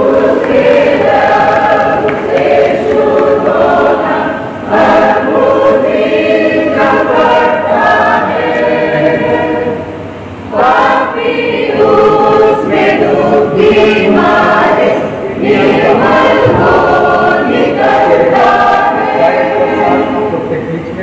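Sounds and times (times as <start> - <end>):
choir singing a hymn: 0.0 - 20.5.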